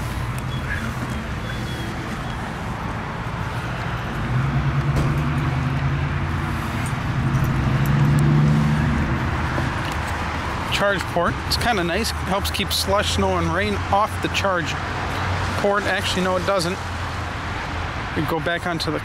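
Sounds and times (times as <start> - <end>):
traffic engine hum and rush: 0.0 - 19.0.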